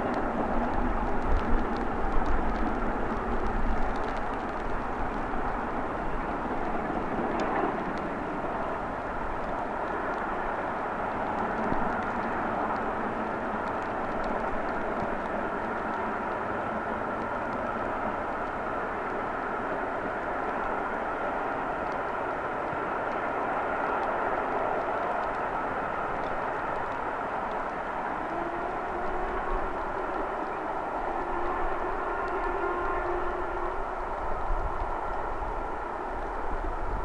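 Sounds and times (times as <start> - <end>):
distant steam locomotives roaring: 0.0 - 37.0
wind buffeting microphone: 0.0 - 37.0.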